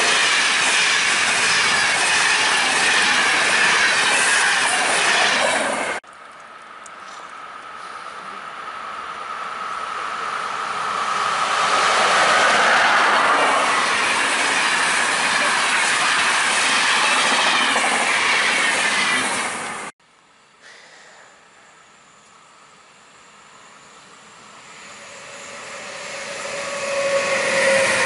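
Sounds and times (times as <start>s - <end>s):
train passing at speed: 0.0s - 6.0s, 7.3s - 19.9s, 23.0s - 28.0s
faint distant train: 0.0s - 19.9s, 20.6s - 28.0s.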